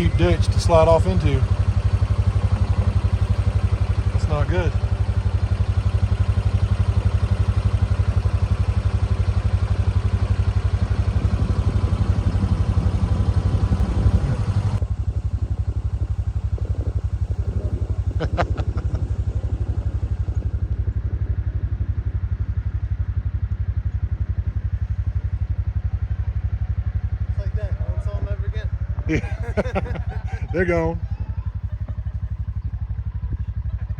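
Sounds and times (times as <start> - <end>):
single-cylinder engine running: 0.0 - 33.9.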